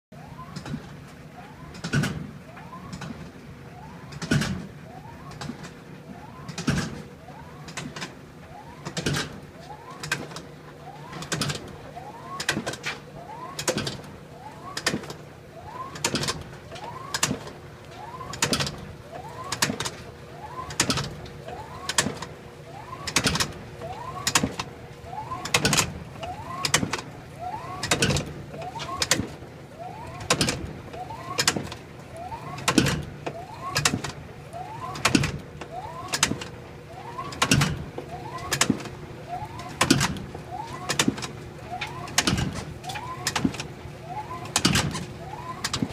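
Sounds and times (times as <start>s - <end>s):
washing machine hum: 0.1s - 45.9s.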